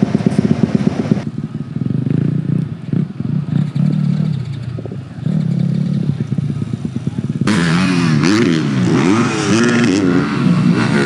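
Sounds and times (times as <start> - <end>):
motocross bike engines idling: 0.0 - 11.0.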